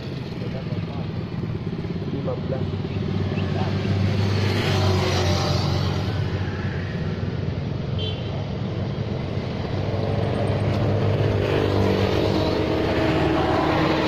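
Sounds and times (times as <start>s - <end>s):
vehicle approaching: 0.0s - 7.8s, 8.5s - 14.0s
traffic engine drone: 0.0s - 14.0s.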